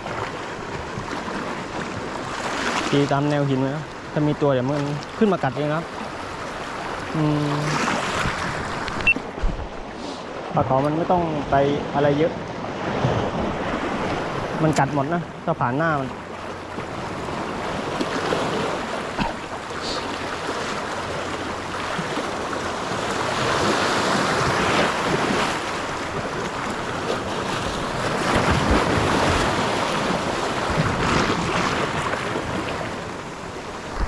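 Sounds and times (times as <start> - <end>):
surf washing on rocky shore: 0.0 - 34.0.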